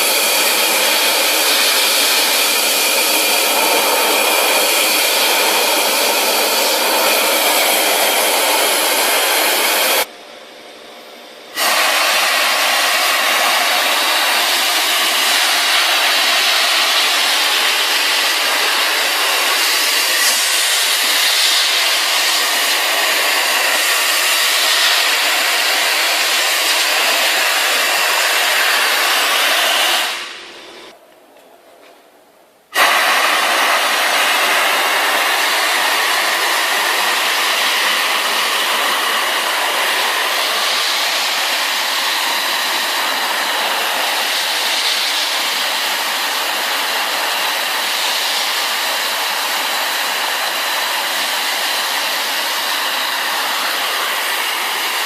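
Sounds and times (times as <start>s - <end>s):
industrial vacuum cleaner hissing: 0.0s - 10.2s, 11.4s - 31.0s, 32.7s - 55.0s.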